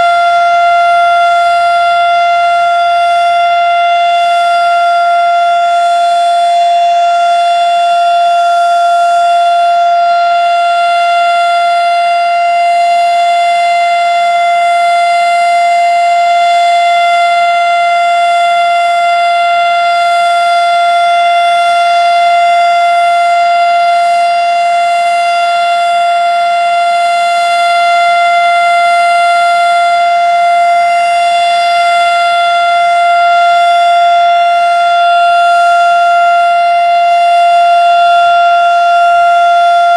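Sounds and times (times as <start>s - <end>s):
mechanical fire siren: 0.0s - 39.9s.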